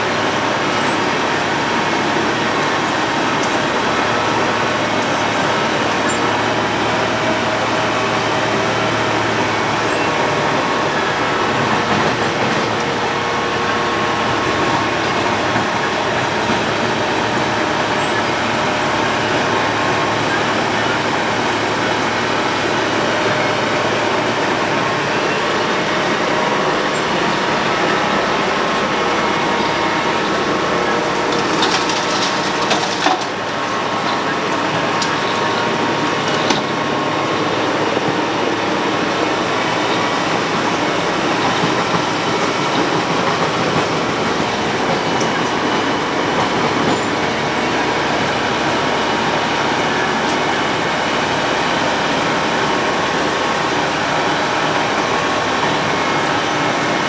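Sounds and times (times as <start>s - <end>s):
road milling machine grinding asphalt: 0.0s - 57.0s.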